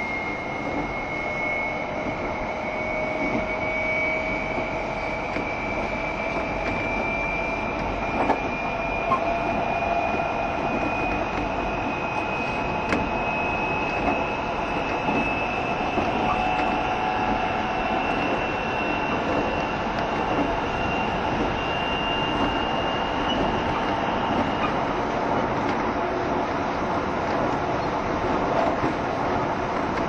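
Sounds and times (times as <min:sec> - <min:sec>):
train wheel and track rumble: 0:00.0 - 0:30.0.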